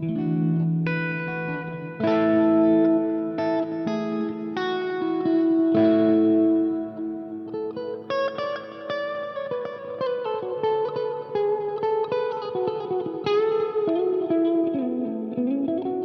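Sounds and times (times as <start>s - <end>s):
clean electric guitar notes: 0.0s - 16.0s.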